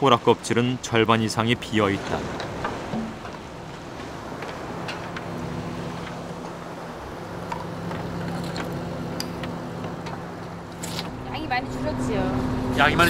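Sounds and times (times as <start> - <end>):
boat engine running: 1.6 - 13.0.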